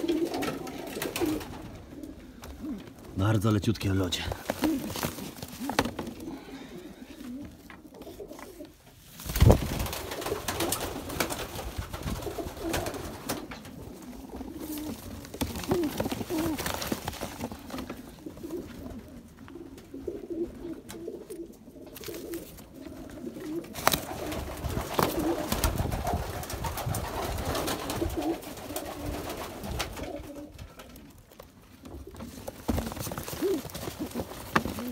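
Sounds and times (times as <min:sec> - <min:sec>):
pigeons cooing: 0:00.0 - 0:03.2, 0:04.3 - 0:08.9, 0:10.0 - 0:34.9.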